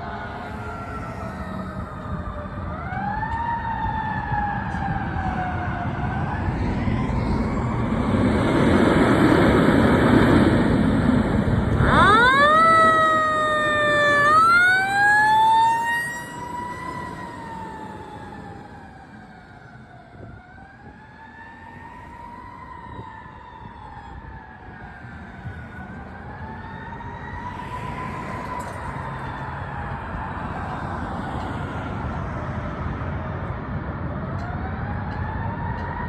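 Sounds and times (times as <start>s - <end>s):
fire engine sirens wailing: 0.0s - 36.0s.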